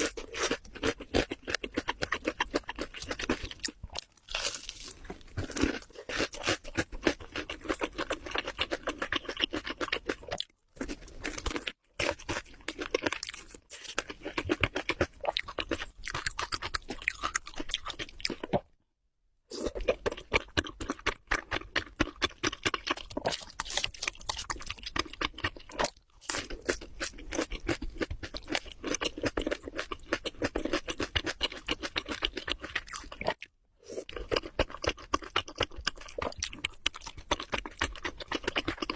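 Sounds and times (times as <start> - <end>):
crunching and chewing food: 0.0 - 18.8, 19.5 - 38.9.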